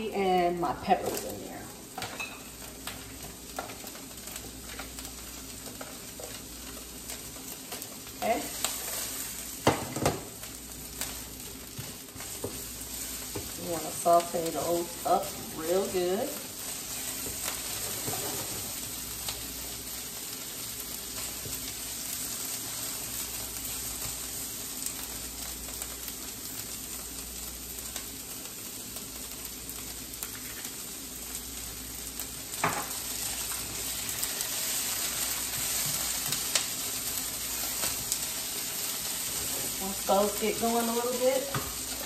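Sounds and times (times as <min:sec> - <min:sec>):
vegetables sizzling in frying pan: 0:00.0 - 0:42.0.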